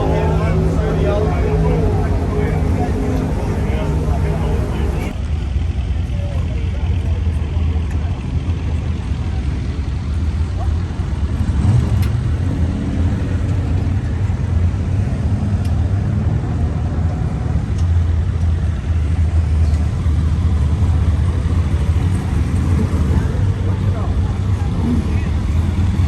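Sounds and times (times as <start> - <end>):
car engines idling: 0.0 - 26.0.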